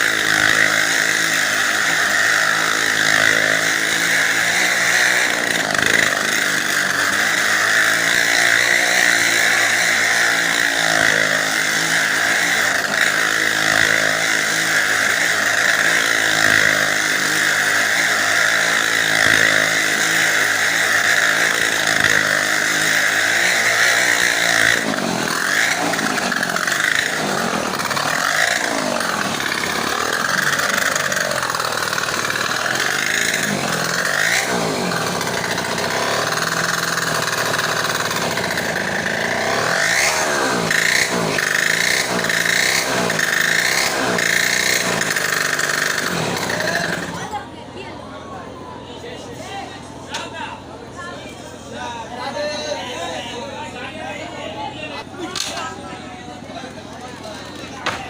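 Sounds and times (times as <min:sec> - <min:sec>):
motorcycle engines running hard: 0:00.0 - 0:47.8.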